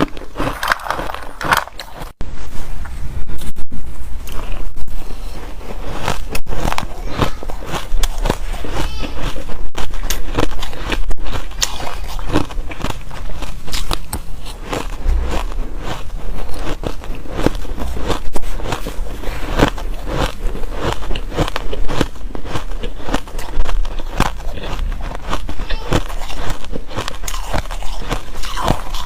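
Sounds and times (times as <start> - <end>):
ice crunching while chewed: 0.0 - 2.2, 4.2 - 29.0.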